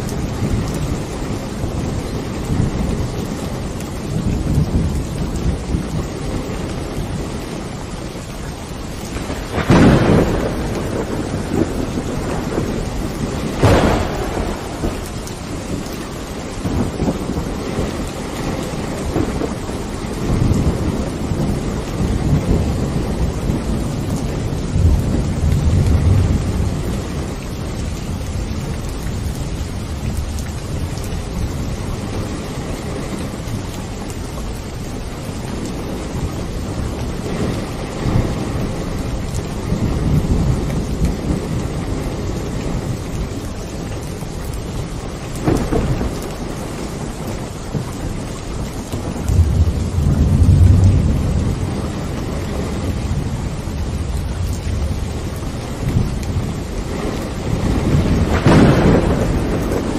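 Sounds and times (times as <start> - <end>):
steady rain: 0.0 - 59.9
rolling thunder: 9.1 - 59.9.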